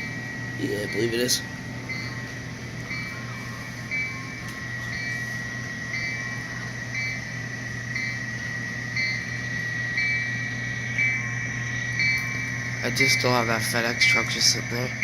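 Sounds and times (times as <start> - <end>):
diesel idle hum from small speaker: 0.0 - 15.0
locomotive bell ringing: 0.0 - 15.0
steady high whine: 0.0 - 15.0.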